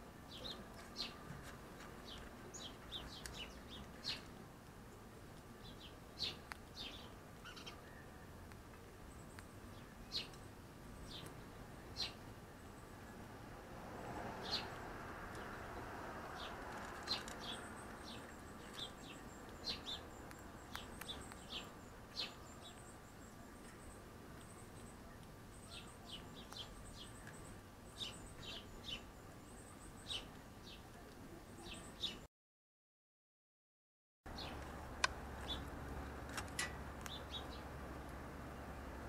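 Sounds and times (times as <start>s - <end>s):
small birds chirping: 0.0s - 13.5s, 14.1s - 32.3s, 34.3s - 39.0s.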